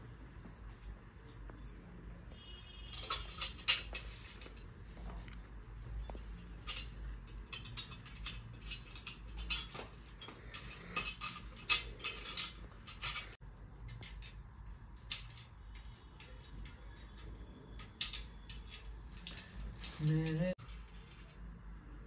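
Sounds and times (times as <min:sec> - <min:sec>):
metal tubes clinking and tapping: 0:02.8 - 0:21.7.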